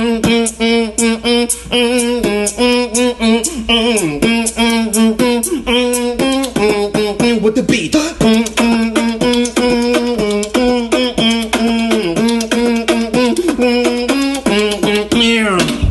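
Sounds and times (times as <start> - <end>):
mouth percussion clicks: 0.2 - 15.9.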